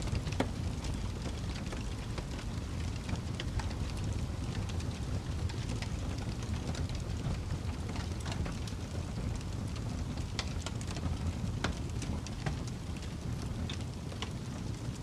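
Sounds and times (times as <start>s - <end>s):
burning wood crackling and popping: 0.0s - 15.0s
fire flames rushing: 0.0s - 15.0s.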